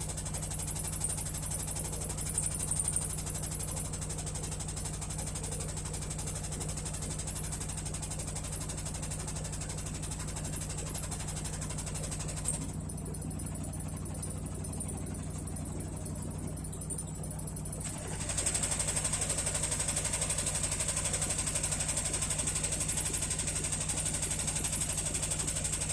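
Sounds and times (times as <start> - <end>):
washing machine spinning: 0.0 - 25.9.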